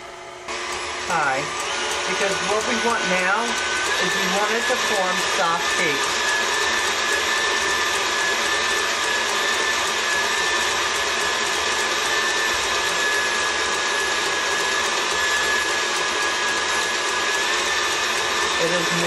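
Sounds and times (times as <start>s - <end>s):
stand mixer whisking: 0.0s - 19.0s.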